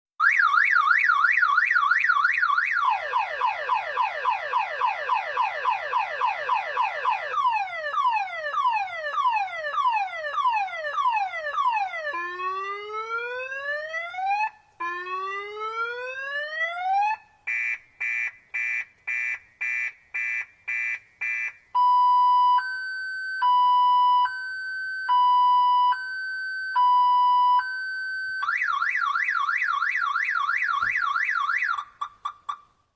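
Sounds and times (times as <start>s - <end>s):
car alarm siren: 0.2s - 32.6s.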